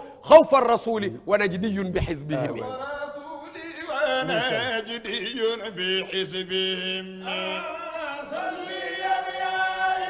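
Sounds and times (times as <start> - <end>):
man chanting religious verse: 0.0 - 8.3.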